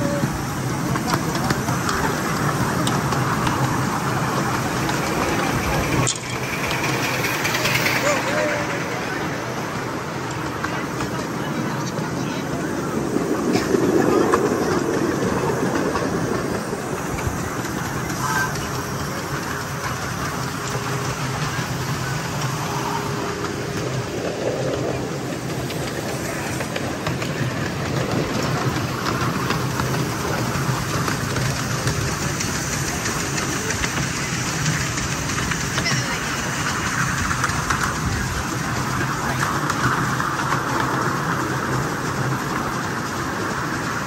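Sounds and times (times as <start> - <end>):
miniature train running on track: 0.0 - 44.0.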